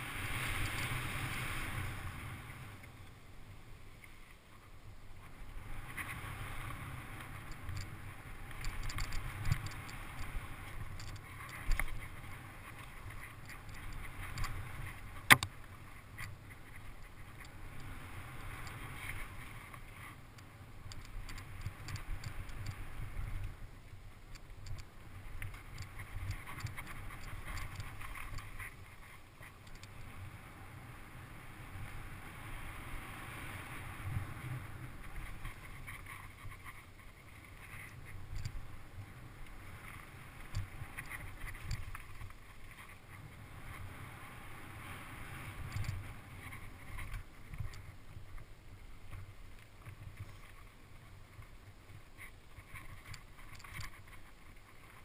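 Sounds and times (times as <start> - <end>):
wind rumble on microphone: 0.0 - 55.0
bike rattles and clicks: 5.2 - 30.3, 33.8 - 55.0.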